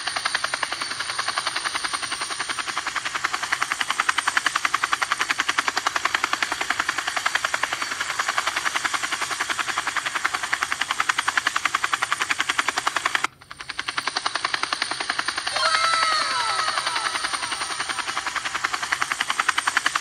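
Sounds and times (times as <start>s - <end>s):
toy helicopter rotor rattling: 0.0s - 20.0s.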